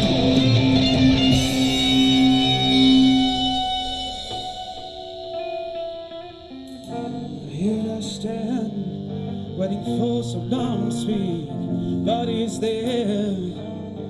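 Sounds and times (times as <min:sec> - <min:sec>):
live band with guitars: 0:00.0 - 0:14.0
sliding guitar melody: 0:00.0 - 0:14.0.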